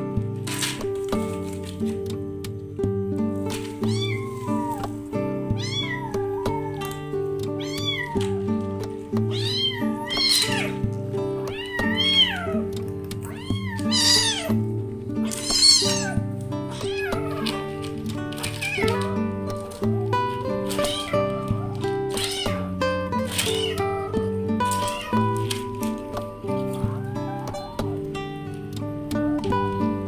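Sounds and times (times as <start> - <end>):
background music: 0.0 - 30.0
kitten meowing: 3.8 - 28.6.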